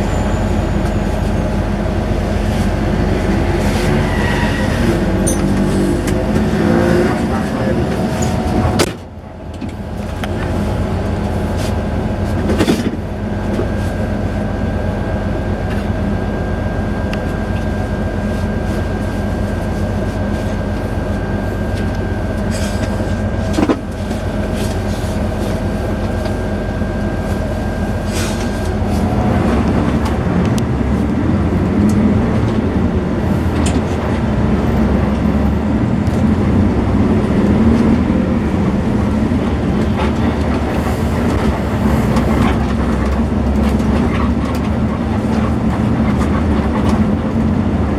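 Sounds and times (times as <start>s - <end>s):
moving vehicle rumble: 0.0s - 47.9s.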